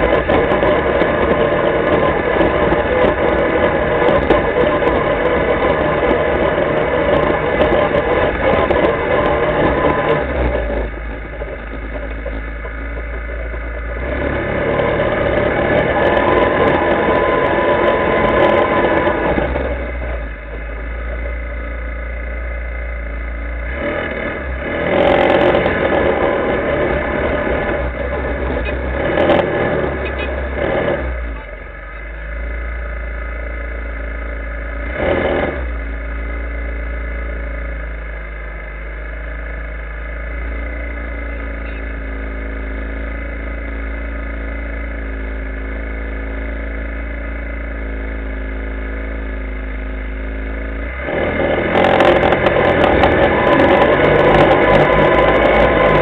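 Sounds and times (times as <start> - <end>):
atv engine revving: 0.0 - 56.0
low rumble of riding: 0.0 - 56.0.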